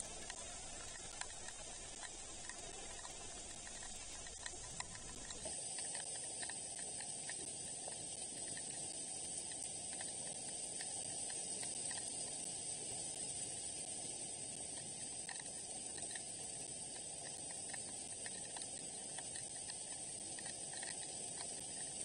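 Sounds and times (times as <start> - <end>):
faint ticks: 0.0 - 22.0
microphone hiss: 0.0 - 22.0.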